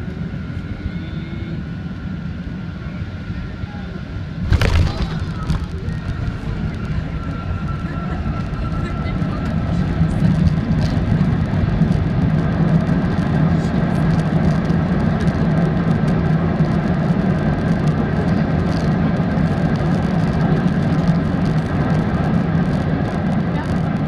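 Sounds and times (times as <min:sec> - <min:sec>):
airliner engine rumble in cabin: 0:00.0 - 0:24.0
wheels rolling on runway: 0:03.9 - 0:24.0.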